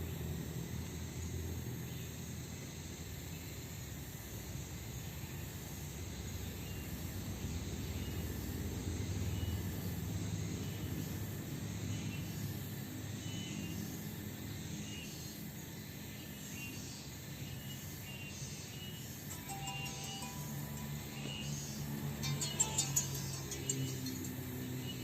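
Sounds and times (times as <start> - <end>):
insects chirring: 0.1 - 25.0.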